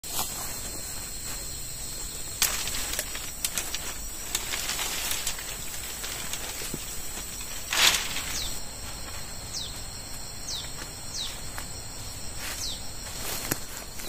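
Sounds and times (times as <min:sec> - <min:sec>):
crackles and rustles: 0:00.0 - 0:14.0
high insect drone: 0:00.1 - 0:14.0.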